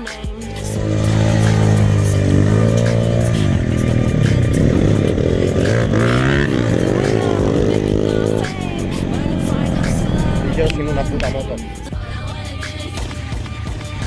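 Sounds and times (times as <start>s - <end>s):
motorbike engine revving: 0.5s - 14.0s.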